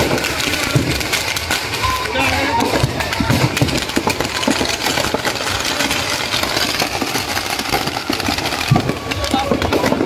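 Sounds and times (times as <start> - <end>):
firecrackers crackling and popping: 0.0 - 10.0
large crowd noise: 0.0 - 10.0.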